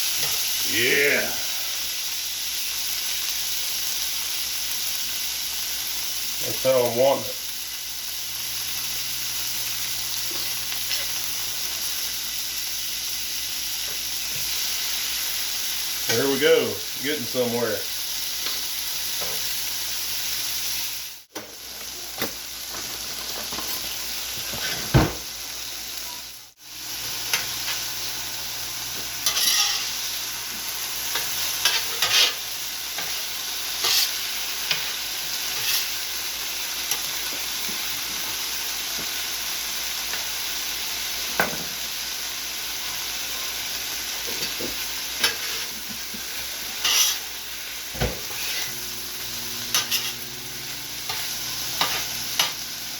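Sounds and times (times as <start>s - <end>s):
food sizzling on a griddle: 0.0s - 52.9s.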